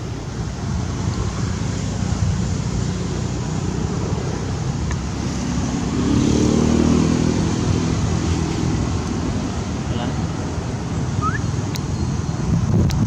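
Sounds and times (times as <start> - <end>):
passing vehicle engine: 0.0 - 13.0
traffic rumble: 0.0 - 13.0.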